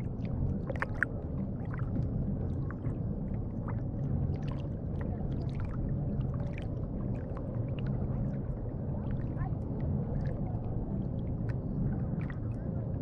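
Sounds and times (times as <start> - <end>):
small splashes and drips: 0.0 - 13.0
water lapping against kayak: 0.0 - 13.0.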